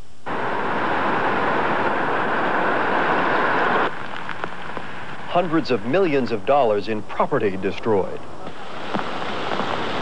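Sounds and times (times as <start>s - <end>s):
floodwater rushing: 0.3s - 10.0s.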